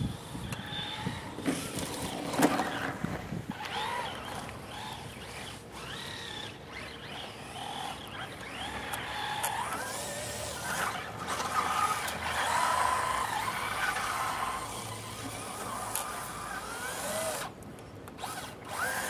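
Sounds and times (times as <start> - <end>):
electric motor whining: 0.0 - 17.6, 18.2 - 19.0.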